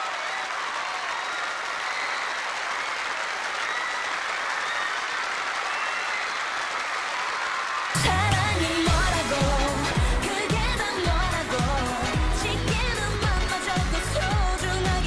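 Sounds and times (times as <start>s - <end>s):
audience applauding and cheering: 0.0s - 15.0s.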